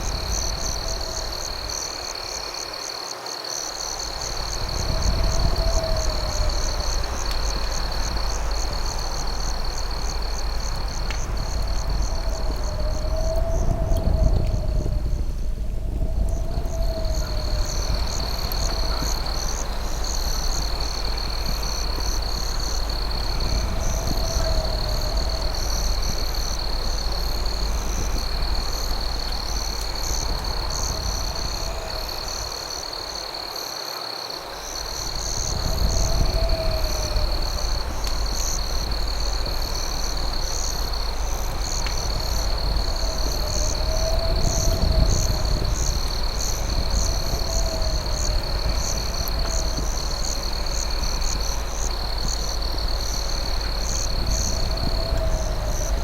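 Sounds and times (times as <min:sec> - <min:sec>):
steady low rumble: 0:00.0 - 0:02.4, 0:03.9 - 0:33.2, 0:34.7 - 0:56.0
cricket trill: 0:00.0 - 0:56.0
fast pulsing insect chirp: 0:00.0 - 0:56.0
short lower insect call: 0:00.0 - 0:56.0.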